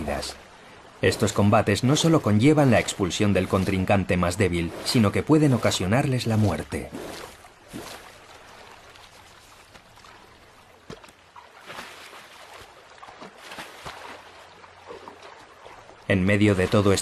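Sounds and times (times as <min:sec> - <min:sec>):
river water running: 0:00.0 - 0:17.0
water splashes: 0:00.0 - 0:17.0.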